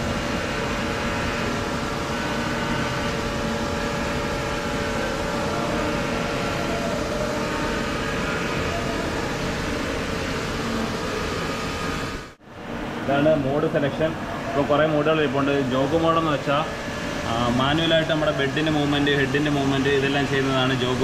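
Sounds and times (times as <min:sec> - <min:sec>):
machining center humming: 0:00.0 - 0:21.0.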